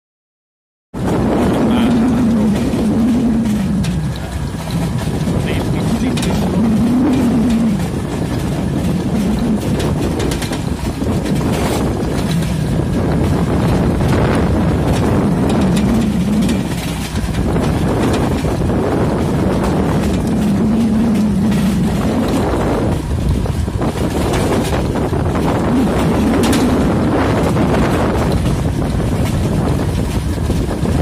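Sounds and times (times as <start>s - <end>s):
motorcycle engines droning: 1.0s - 31.0s
steel cart clattering: 1.0s - 31.0s
wind buffeting microphone: 1.0s - 31.0s.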